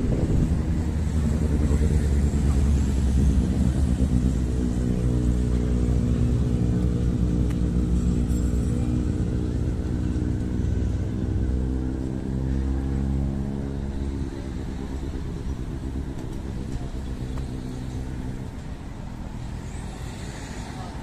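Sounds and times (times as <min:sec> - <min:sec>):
motorbike engine humming: 0:00.0 - 0:21.0
street traffic: 0:00.0 - 0:21.0.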